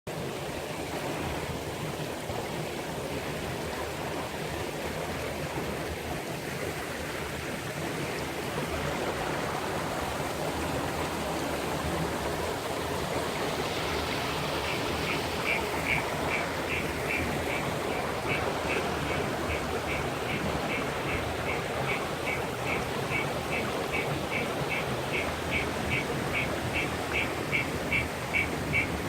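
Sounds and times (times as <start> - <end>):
rushing flowing water: 0.1 - 29.0.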